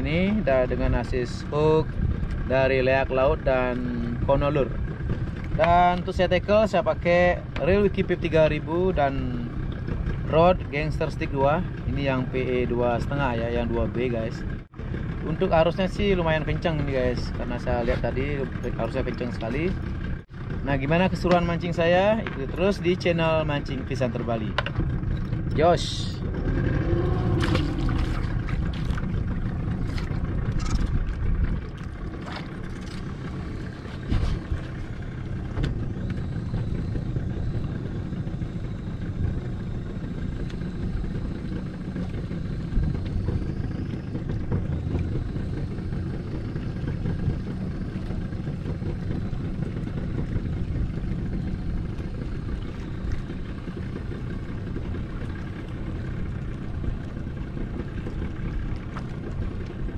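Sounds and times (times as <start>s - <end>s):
boat engine rumbling: 0.0s - 59.9s.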